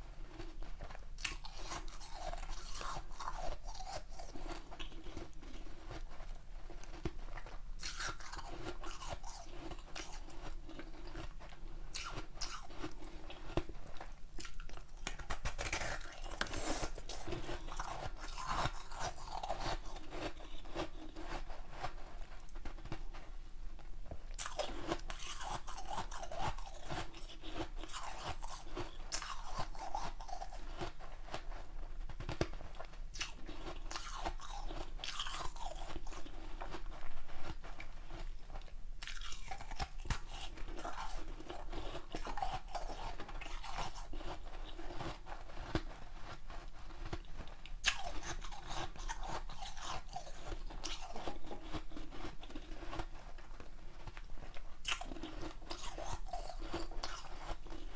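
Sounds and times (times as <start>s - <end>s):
teeth crunching ice: 0.3s - 23.1s, 24.3s - 31.5s, 32.1s - 46.4s, 47.0s - 57.9s.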